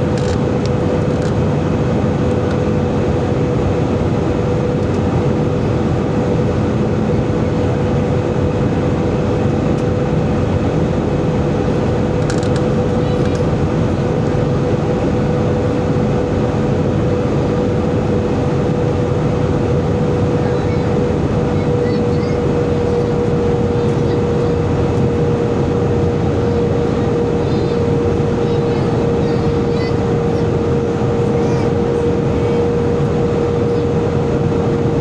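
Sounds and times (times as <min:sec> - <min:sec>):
airplane cabin noise: 0:00.0 - 0:35.0
constant hum: 0:00.0 - 0:35.0.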